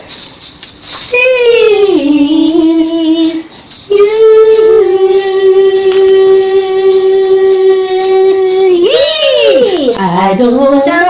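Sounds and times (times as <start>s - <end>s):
woman singing a long note: 1.2s - 11.0s.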